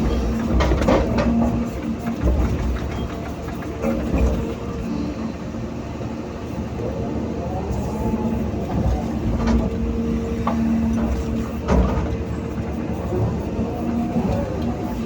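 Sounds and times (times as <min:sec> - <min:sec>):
excavator diesel engine whining: 0:00.0 - 0:15.0.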